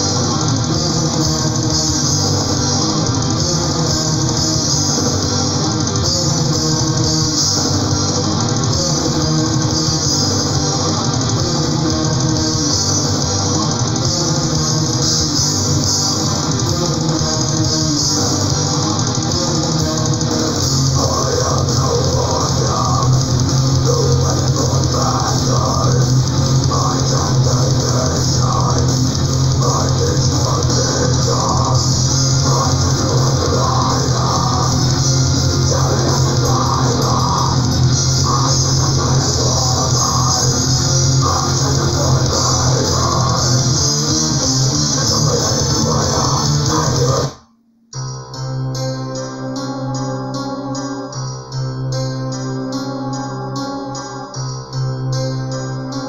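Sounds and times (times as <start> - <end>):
black metal music: 0.0 - 47.4.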